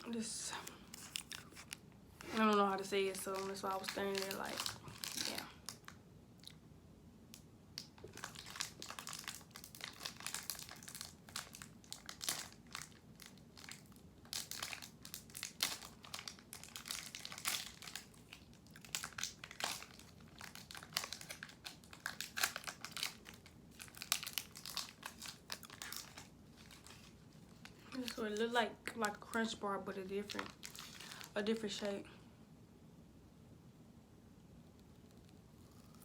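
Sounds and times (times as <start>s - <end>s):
plastic wrapper crinkling: 0.1s - 6.0s, 7.8s - 31.4s.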